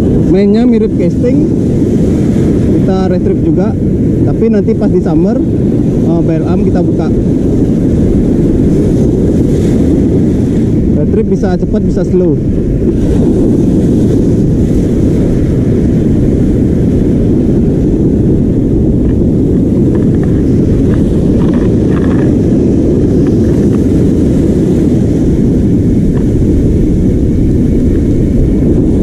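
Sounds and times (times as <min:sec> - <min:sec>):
breaking surf: 0:00.0 - 0:29.0
wind buffeting microphone: 0:00.0 - 0:29.0.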